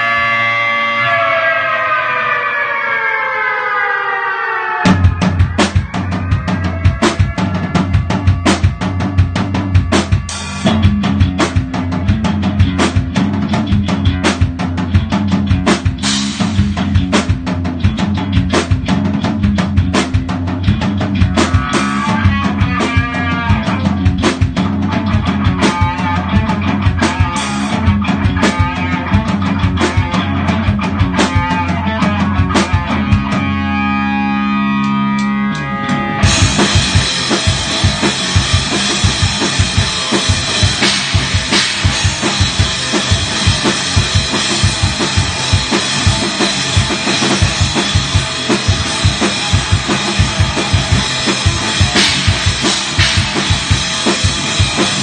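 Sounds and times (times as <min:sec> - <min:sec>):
metal band playing: 0:00.0 - 0:02.1, 0:04.6 - 0:55.0
rapid bass drum and snare hits: 0:04.9 - 0:33.5, 0:36.2 - 0:55.0.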